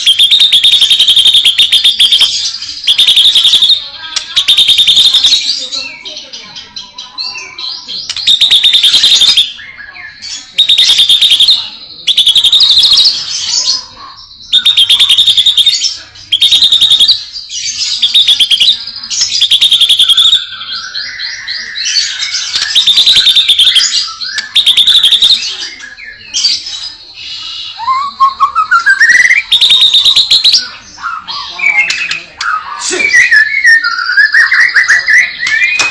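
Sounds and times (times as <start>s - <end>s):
bird singing trilling phrases: 0.0s - 35.9s.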